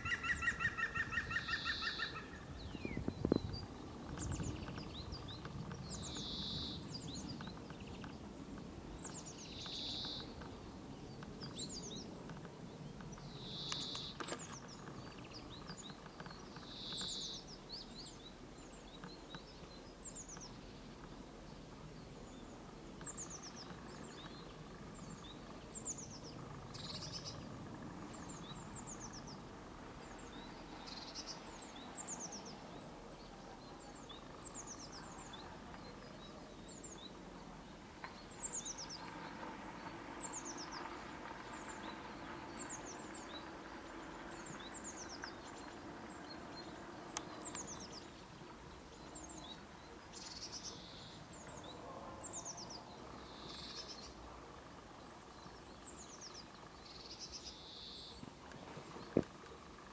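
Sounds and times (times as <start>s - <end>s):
low background rumble: 0.0s - 59.9s
songbirds calling: 0.0s - 59.9s.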